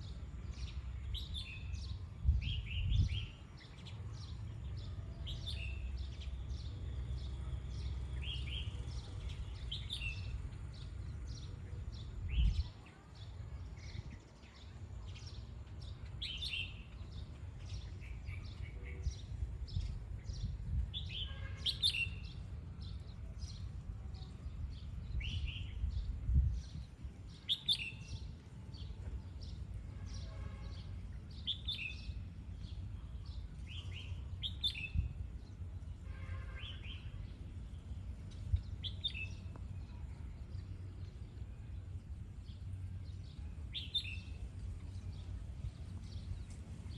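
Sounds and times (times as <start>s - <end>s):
bird chirping: 0.0s - 46.9s.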